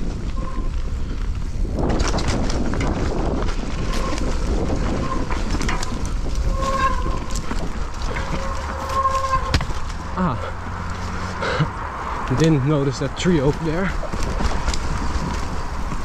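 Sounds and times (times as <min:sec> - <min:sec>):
bike rattling and clacking: 0:00.0 - 0:16.0
bike tyre noise on dirt: 0:00.0 - 0:16.0
wind rumble on microphone: 0:00.0 - 0:16.0.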